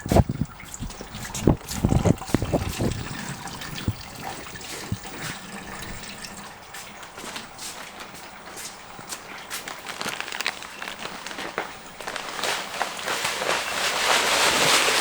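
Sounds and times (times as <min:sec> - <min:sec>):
coolant splashing and trickling: 0:00.0 - 0:15.0.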